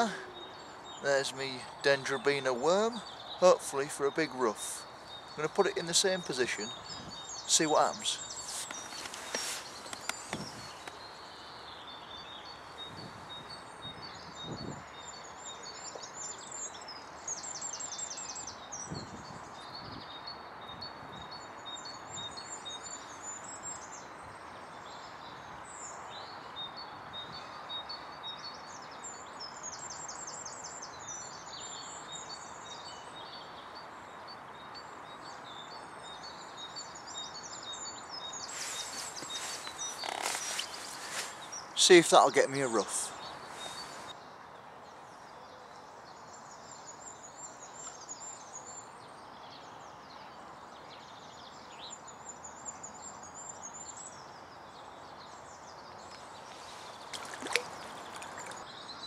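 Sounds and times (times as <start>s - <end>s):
songbirds chirping and trilling: 0.0s - 59.0s
steady outdoor hiss: 0.0s - 59.0s.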